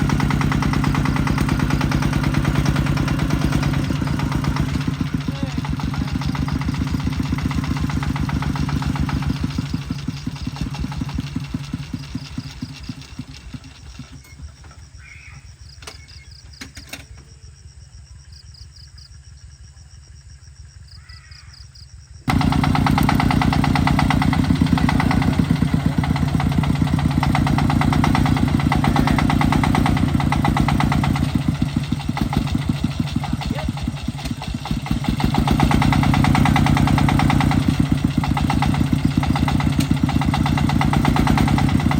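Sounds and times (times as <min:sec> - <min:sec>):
tractor engine chugging: 0:00.0 - 0:17.7, 0:22.3 - 0:41.9.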